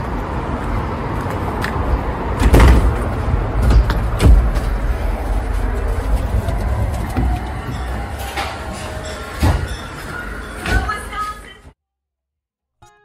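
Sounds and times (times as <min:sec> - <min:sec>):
low street rumble: 0:00.0 - 0:11.8.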